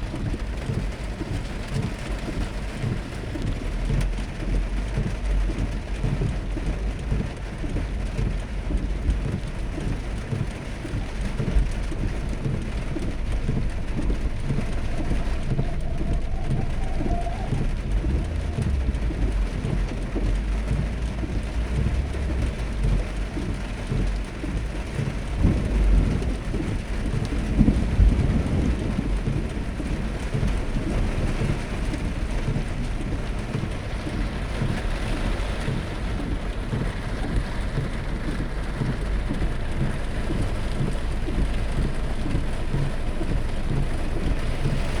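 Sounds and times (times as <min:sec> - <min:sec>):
heavy rain pattering: 0:00.0 - 0:45.0
low rumble: 0:00.0 - 0:45.0.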